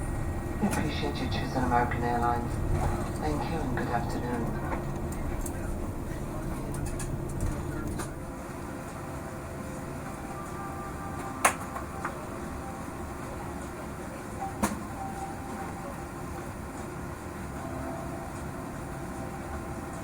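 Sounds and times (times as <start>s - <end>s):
aircraft cabin low rumble: 0.0s - 20.0s.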